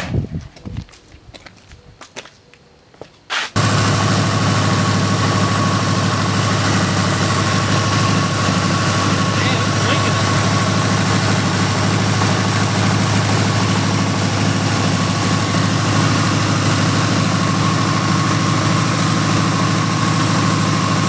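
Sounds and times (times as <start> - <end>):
car engine idling: 3.6 - 21.0.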